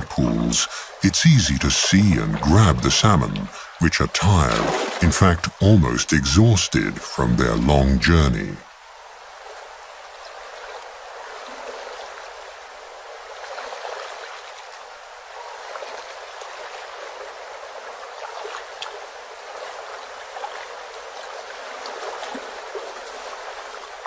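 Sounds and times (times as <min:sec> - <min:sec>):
stream water running over rocks: 0:00.0 - 0:24.0
water trickling and dripping: 0:00.0 - 0:24.0.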